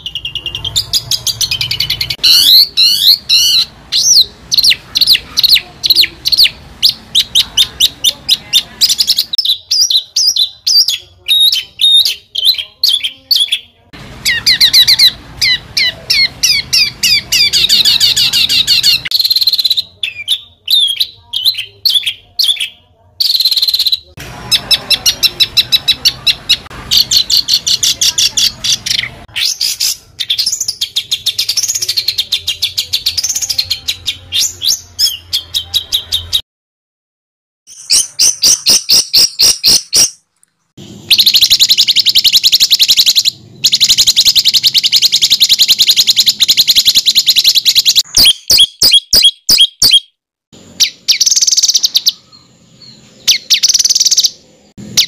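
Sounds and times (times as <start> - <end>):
songbird singing sharp trills: 0.0 - 36.4, 41.1 - 50.1, 50.8 - 54.4.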